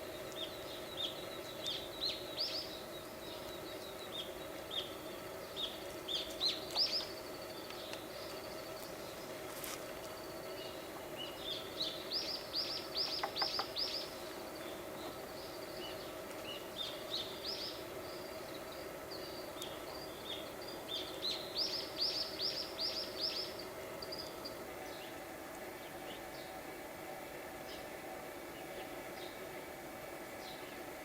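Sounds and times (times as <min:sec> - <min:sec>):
songbird singing: 0:00.0 - 0:26.8, 0:27.6 - 0:29.6, 0:30.3 - 0:30.9
steady background noise: 0:00.0 - 0:31.0.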